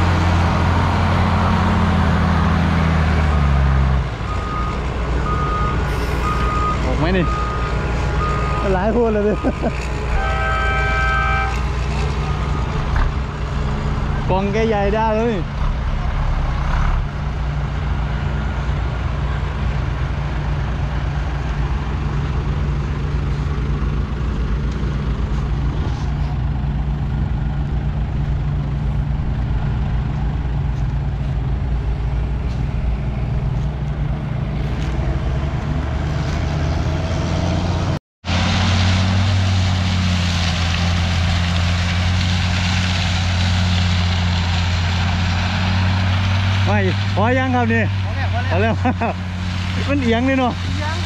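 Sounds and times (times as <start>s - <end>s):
heavy diesel engines droning: 0.0s - 51.0s.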